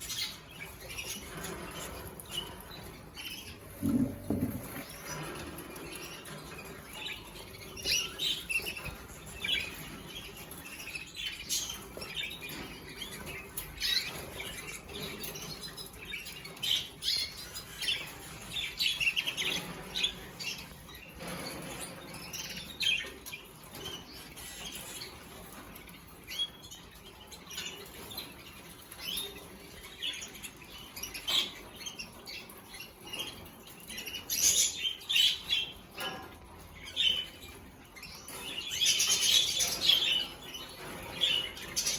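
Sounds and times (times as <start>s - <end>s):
canaries chirping: 0.0s - 41.9s.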